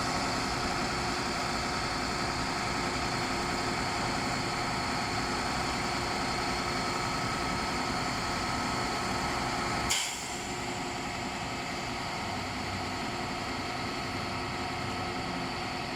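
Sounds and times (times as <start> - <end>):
heavy diesel engine running: 0.0 - 15.9.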